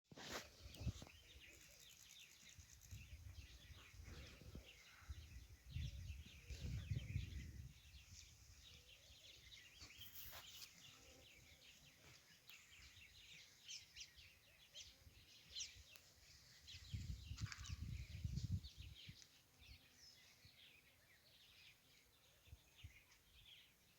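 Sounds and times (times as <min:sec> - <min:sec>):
birds chirping and trilling: 0:00.2 - 0:23.9.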